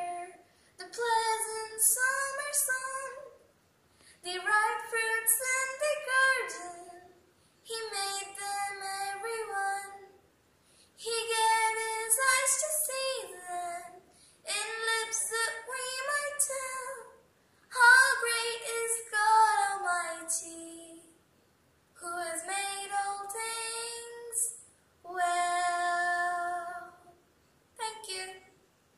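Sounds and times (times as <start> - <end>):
girl singing unaccompanied: 0.0 - 3.5, 4.2 - 10.2, 11.0 - 21.2, 22.0 - 27.2, 27.8 - 28.6.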